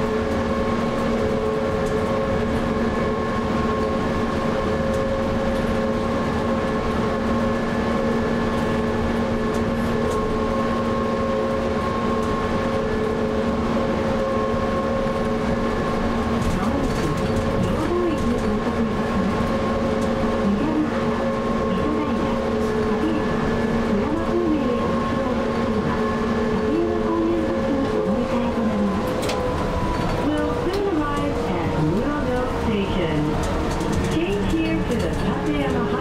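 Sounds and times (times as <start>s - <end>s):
trolleybus tyre and running noise: 0.0s - 36.0s.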